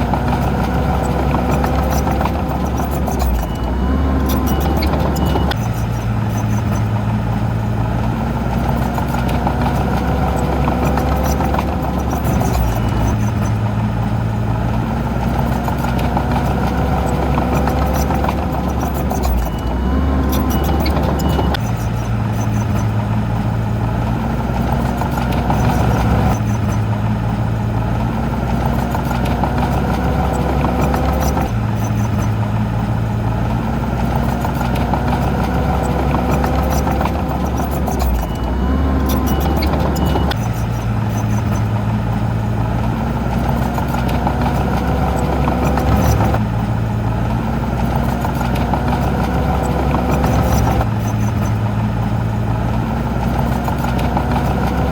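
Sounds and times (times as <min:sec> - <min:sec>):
diesel engine of heavy machine: 0:00.0 - 0:54.9.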